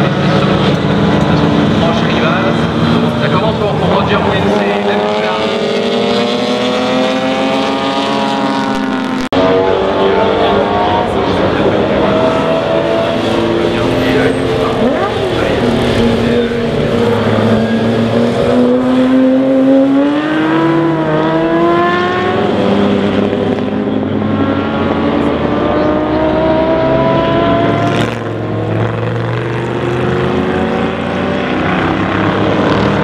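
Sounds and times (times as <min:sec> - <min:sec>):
racing car engines accelerating: 0:00.0 - 0:33.0.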